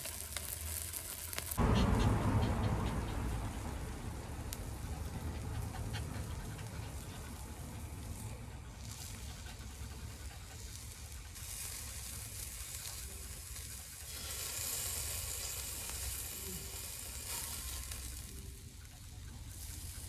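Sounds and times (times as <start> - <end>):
meat sizzling on a grill: 0.0 - 1.7, 3.2 - 20.0.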